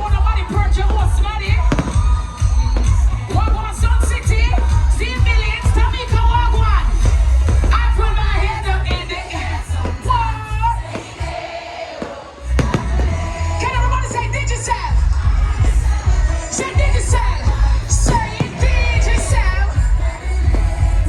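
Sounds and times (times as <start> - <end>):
heavy pulsing bass beat: 0.0 - 11.3, 12.5 - 21.0
music over sound system: 0.0 - 21.0
person singing: 0.0 - 21.0.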